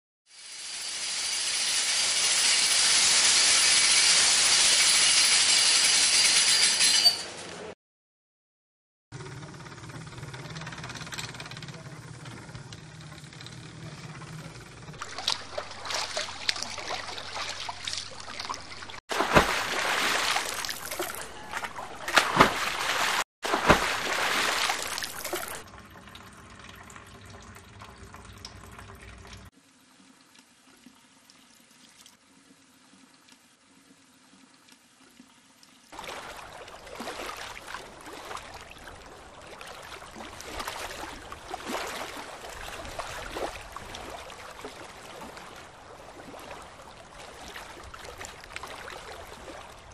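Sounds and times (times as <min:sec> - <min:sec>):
water pouring and splashing: 0:00.3 - 0:06.2, 0:15.0 - 0:49.9.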